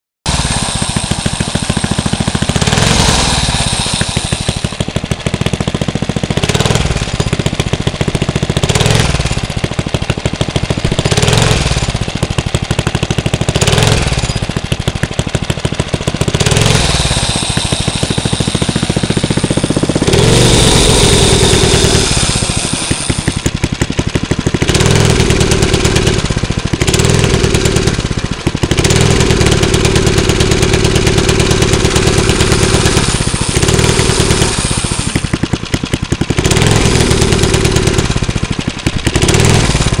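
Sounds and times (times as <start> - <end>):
small engine revving: 0.3 - 40.0.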